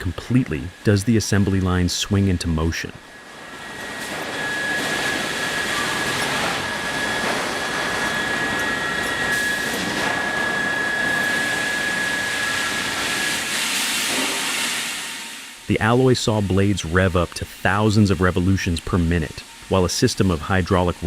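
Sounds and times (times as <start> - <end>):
high-pitched machine whine: 0.0 - 21.0
sawmill machinery rushing: 0.0 - 21.0.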